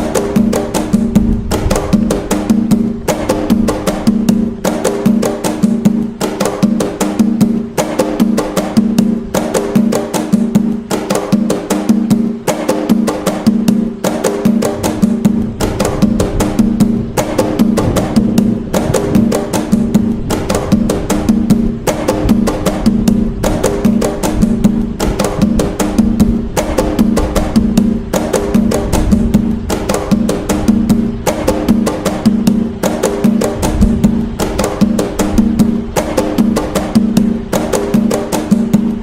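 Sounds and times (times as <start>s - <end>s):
hand drums playing fast rhythm: 0.0s - 39.0s.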